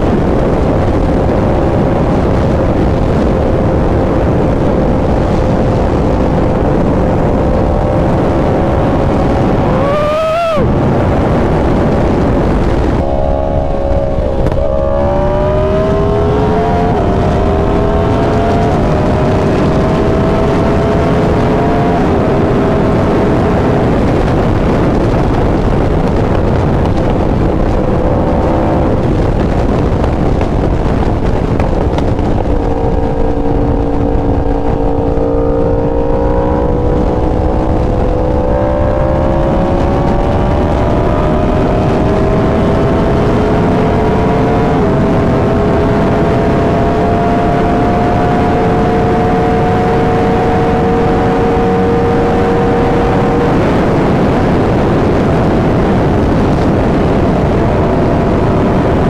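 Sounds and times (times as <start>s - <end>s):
heavy wind rush: 0.0s - 59.0s
motorcycle engine revving: 0.0s - 59.0s.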